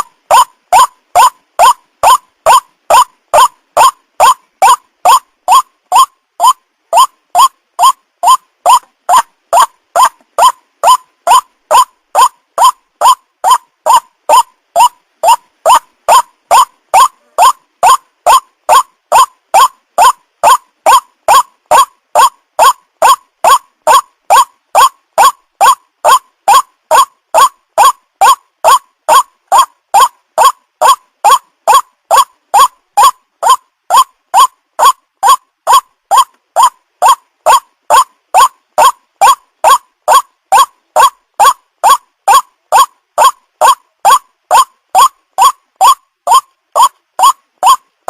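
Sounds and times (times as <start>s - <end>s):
waterhen harsh calls: 0.0s - 47.8s.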